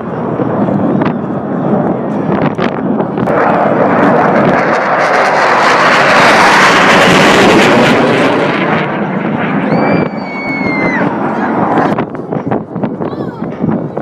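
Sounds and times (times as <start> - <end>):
aircraft engine flying past: 0.0 - 14.0.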